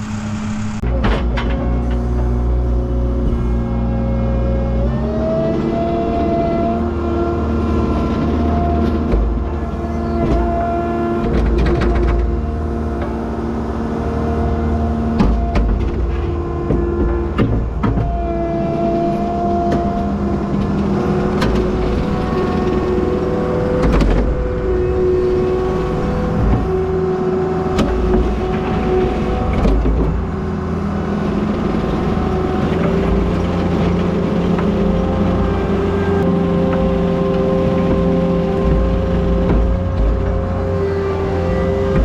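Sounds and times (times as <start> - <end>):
diesel engine working: 0.0 - 42.0.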